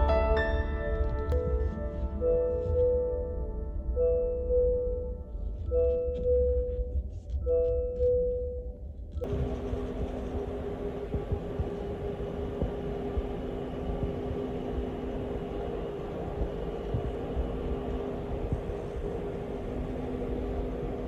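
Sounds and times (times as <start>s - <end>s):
machine running with low hum: 0.0s - 21.0s.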